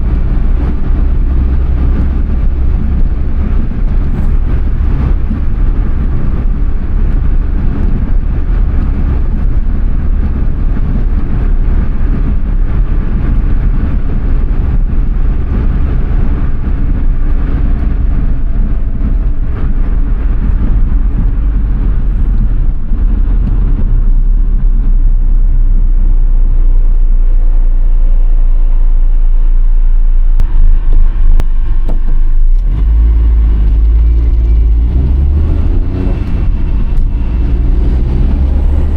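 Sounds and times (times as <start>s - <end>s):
car engine running while driving: 0.0s - 38.9s.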